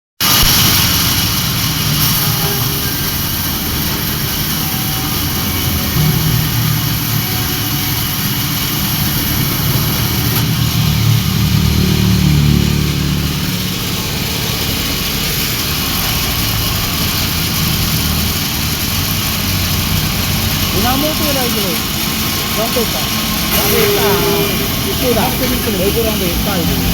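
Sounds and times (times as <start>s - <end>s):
bandsaw humming: 0.6s - 26.9s.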